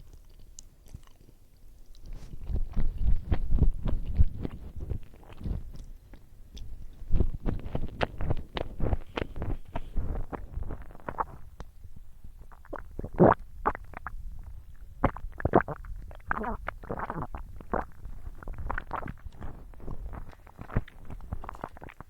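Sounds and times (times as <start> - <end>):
person chewing food: 0.0 - 11.8, 12.5 - 22.0.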